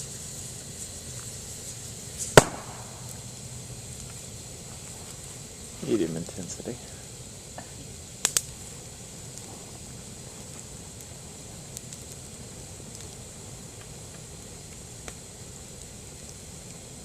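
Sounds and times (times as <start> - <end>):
campfire hissing and rumbling: 0.0 - 17.0
faint fire crackles: 0.0 - 17.0.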